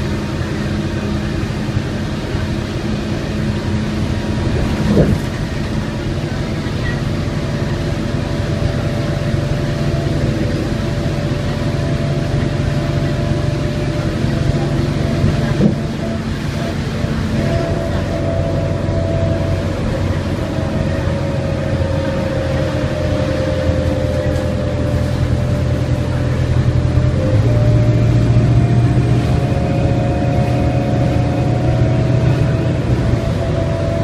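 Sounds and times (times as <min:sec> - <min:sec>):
bus engine drone and whine: 0:00.0 - 0:34.0
tyre noise on wet road: 0:00.0 - 0:34.0.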